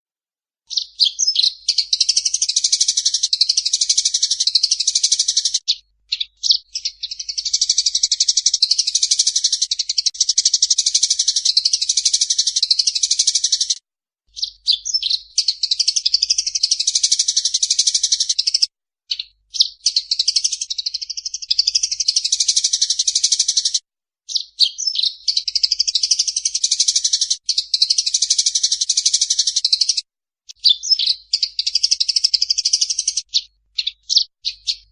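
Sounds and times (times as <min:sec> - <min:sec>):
sparrows chirping: 0:00.7 - 0:34.9.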